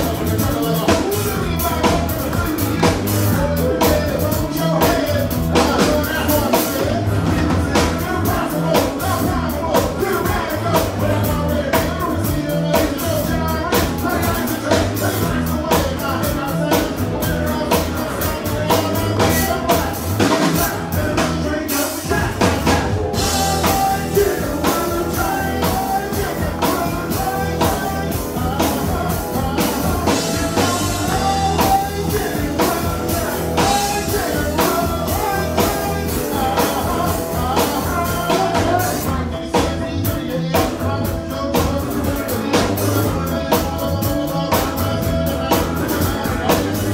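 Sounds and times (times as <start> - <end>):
drum kit beat: 0.0 - 46.9
guitars: 0.0 - 46.9
lead vocals: 0.0 - 46.9.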